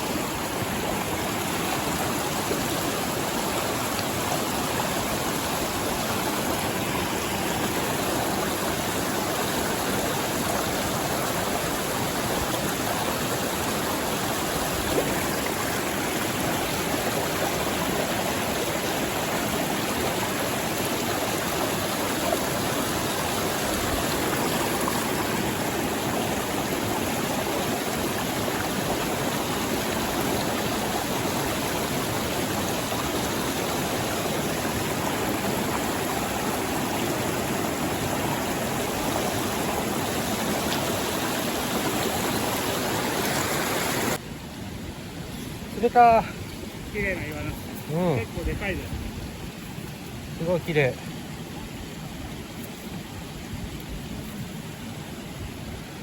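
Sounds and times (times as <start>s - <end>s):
mountain stream flowing: 0.0s - 56.0s.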